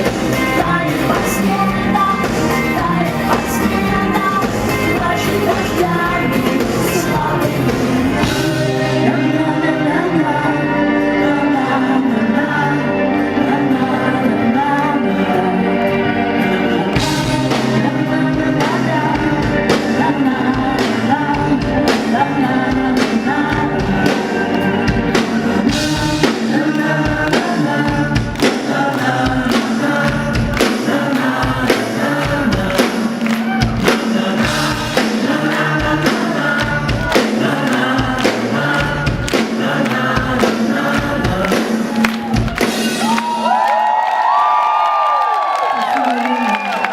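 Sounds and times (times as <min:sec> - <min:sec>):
person singing: 0:00.0 - 0:43.6
live pop-rock band: 0:00.0 - 0:46.9.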